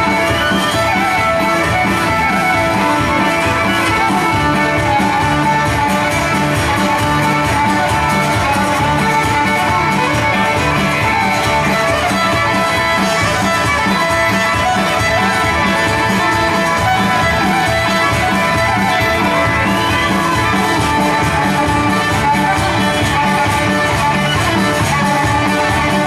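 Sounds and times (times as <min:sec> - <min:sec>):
fiddle tune: 0:00.0 - 0:26.0
guitar backing: 0:00.0 - 0:26.0.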